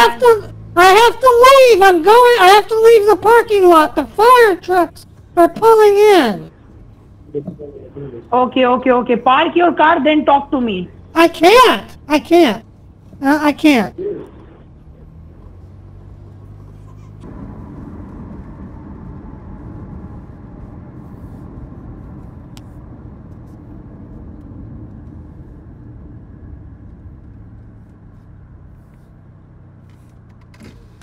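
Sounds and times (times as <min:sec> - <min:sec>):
car engine: 0:00.0 - 0:31.0
road noise: 0:00.0 - 0:31.0.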